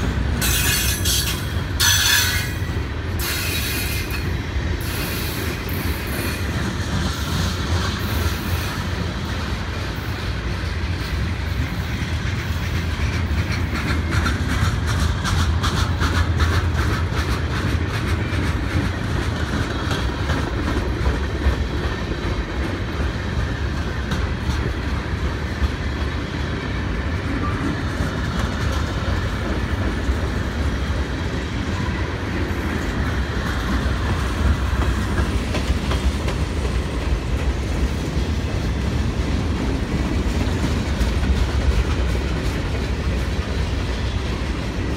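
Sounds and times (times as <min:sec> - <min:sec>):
freight train cars rumbling past: 0:00.0 - 0:44.9
wheels clicking over rail joints: 0:00.0 - 0:44.9.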